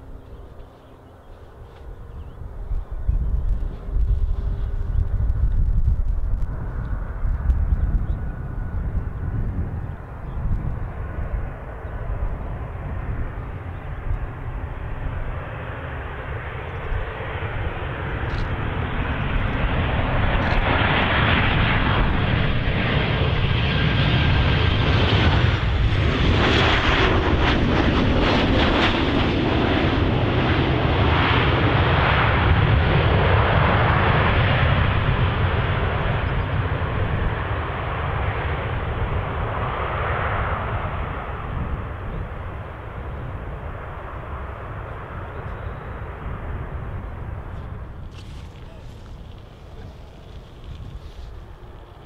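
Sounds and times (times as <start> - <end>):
jet airliner landing: 0.0 - 52.0.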